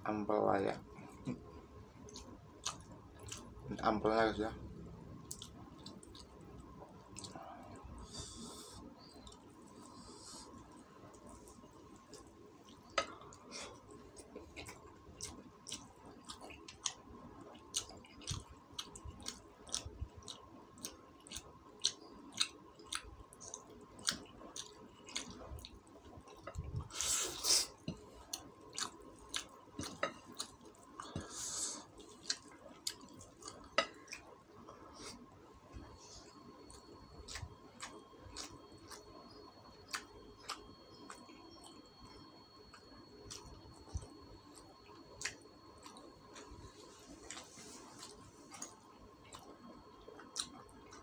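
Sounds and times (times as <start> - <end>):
person chewing with wet clicks: 1.0 - 4.5, 5.2 - 8.1, 9.0 - 51.0.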